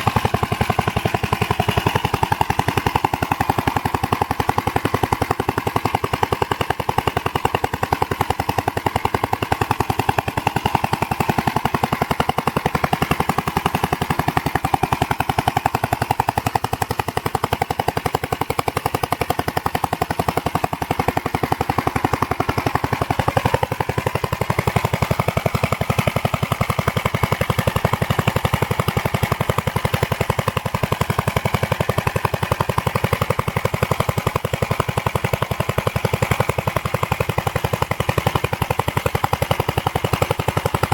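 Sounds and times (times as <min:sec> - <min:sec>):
single-cylinder engine running: 0:00.0 - 0:40.9.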